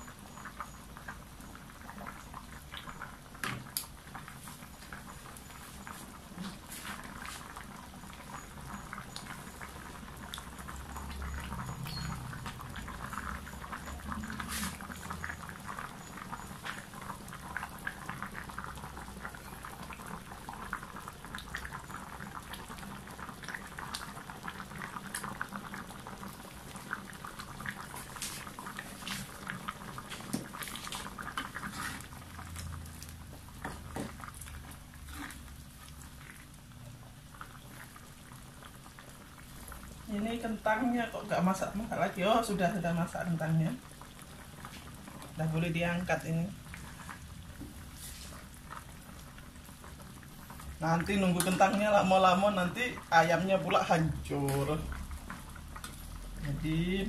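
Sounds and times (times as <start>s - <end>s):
curry bubbling in a wok: 0.0s - 57.0s.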